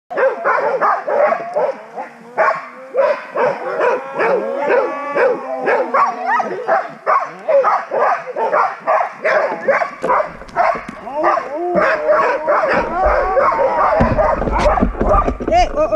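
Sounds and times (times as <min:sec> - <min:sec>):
dogs whining: 0:00.1 - 0:07.7, 0:09.2 - 0:15.4
dogs barking and yipping: 0:00.1 - 0:15.6.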